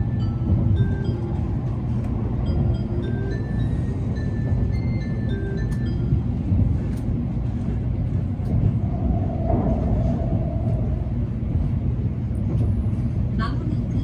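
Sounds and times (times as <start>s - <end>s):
train running low rumble: 0.0s - 14.0s.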